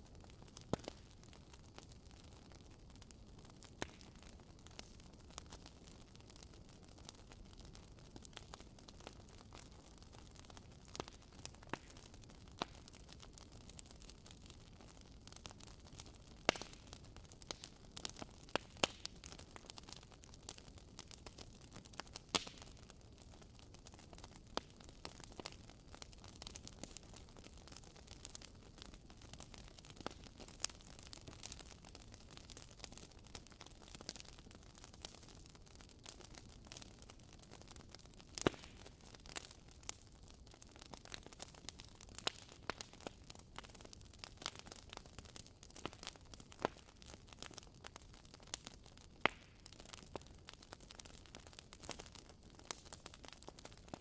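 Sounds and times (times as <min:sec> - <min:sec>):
soft steady fire hiss: 0:00.0 - 0:54.0
wood fire crackling and popping: 0:00.0 - 0:54.0.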